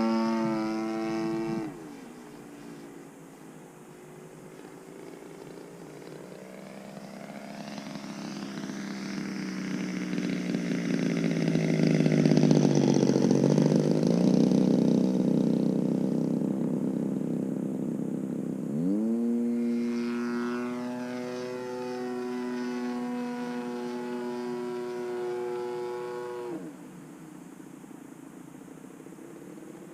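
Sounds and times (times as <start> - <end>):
model plane engine flying past: 0.0 - 27.0.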